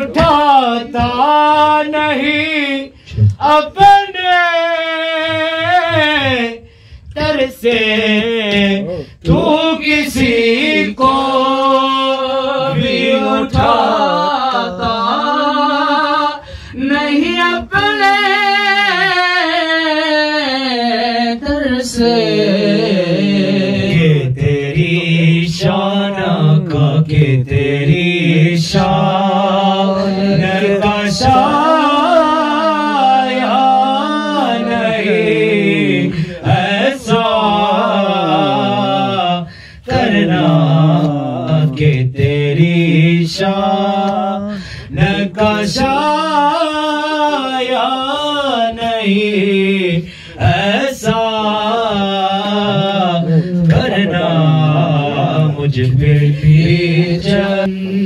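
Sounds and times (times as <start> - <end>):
man singing into microphone: 0.0 - 58.0.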